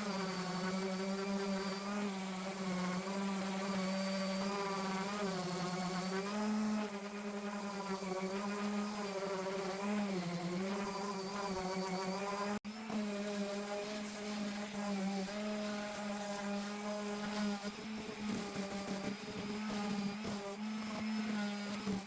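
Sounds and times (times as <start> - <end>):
electric power sander humming: 0.0 - 22.0.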